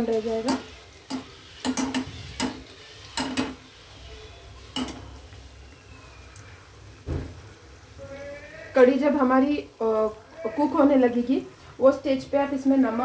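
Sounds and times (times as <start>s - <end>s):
deep frying sizzle: 0.0s - 13.0s.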